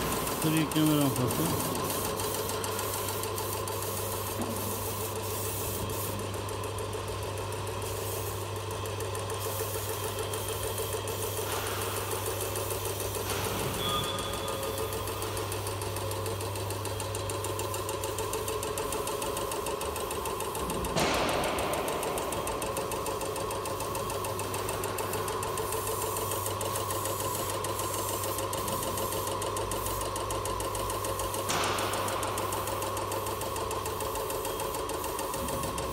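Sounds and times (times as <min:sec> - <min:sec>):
air compressor running: 0:00.0 - 0:35.9.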